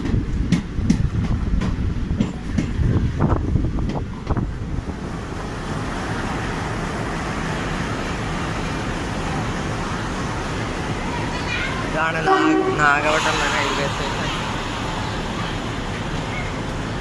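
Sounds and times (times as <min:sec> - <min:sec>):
train rumble and hiss: 0:00.0 - 0:17.0.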